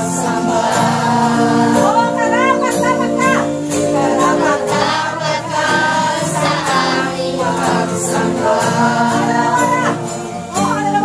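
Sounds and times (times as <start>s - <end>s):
group singing worship song: 0.0s - 10.8s
sustained instrumental accompaniment: 0.0s - 11.0s.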